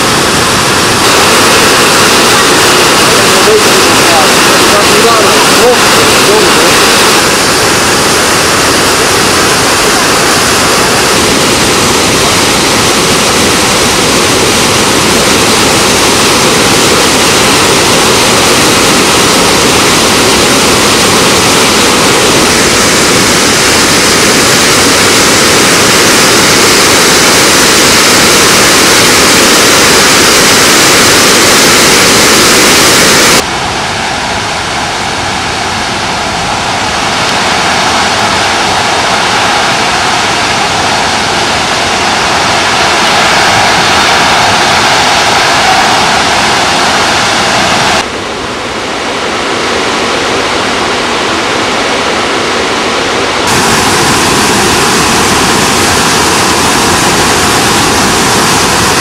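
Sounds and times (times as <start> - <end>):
dull rush of water: 0.0 - 59.0
waterfall roaring: 0.0 - 59.0.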